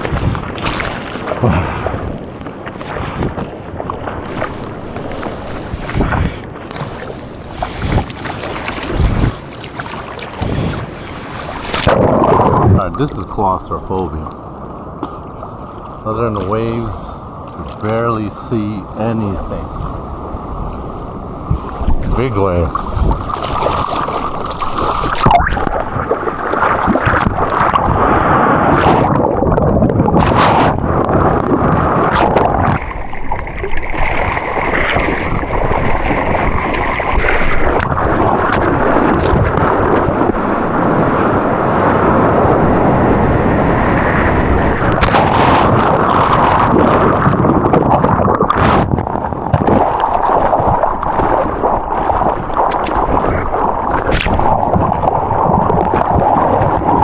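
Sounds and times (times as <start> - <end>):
ocean surf churning and splashing: 0.0 - 57.0.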